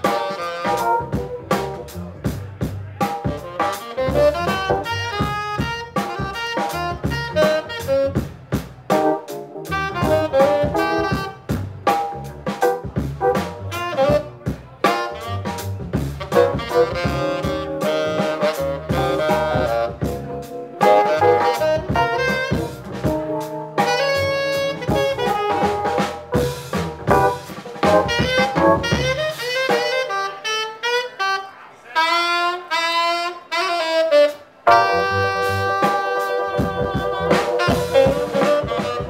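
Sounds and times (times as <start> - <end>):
saxophone playing quick notes: 0.0 - 1.8, 3.3 - 8.3, 8.9 - 11.5, 12.7 - 26.5, 27.1 - 39.0
jazz band playing: 0.0 - 39.0.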